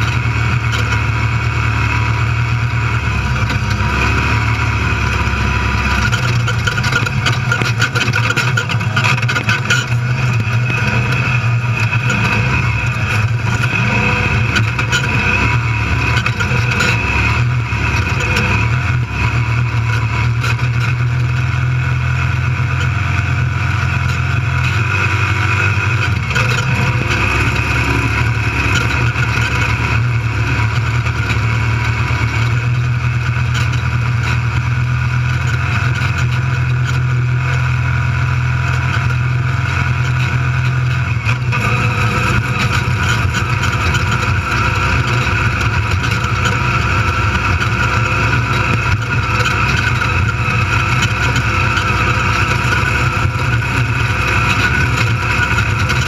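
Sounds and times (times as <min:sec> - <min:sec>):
knocks and rattles over rough ground: 0:00.0 - 0:56.0
vehicle engine running: 0:00.0 - 0:56.0.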